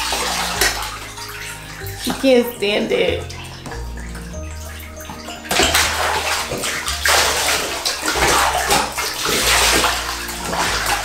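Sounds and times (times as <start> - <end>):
water splashing in bathtub: 0.0 - 11.0.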